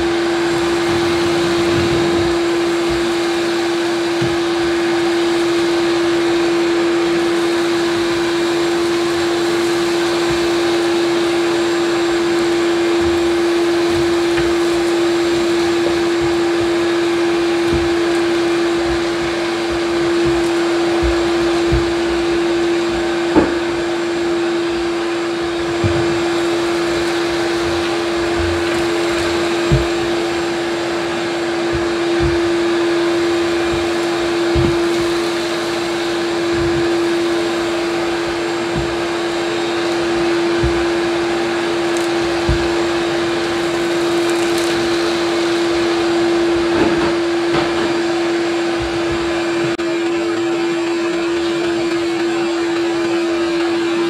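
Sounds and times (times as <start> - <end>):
shop vacuum running: 0.0 - 54.0.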